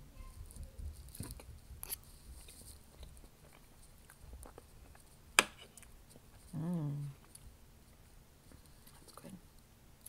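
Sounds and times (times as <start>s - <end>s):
faint chewing: 0.4s - 9.4s.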